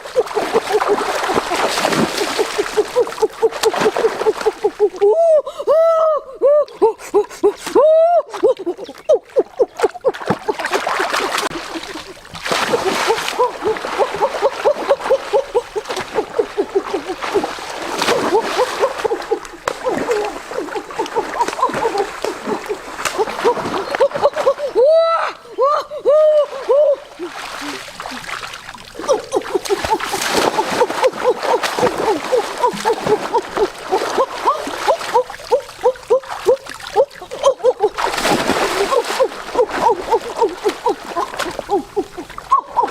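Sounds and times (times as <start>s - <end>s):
water splashing and gurgling: 0.0s - 6.0s, 6.7s - 42.9s.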